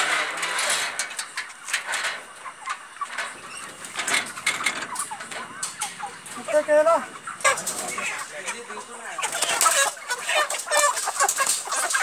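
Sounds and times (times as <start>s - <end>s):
wire crates rattling: 0.0s - 12.0s.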